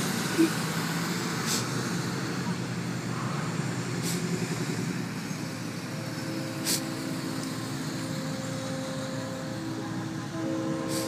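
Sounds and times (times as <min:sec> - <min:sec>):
truck engines humming: 0:00.0 - 0:11.0.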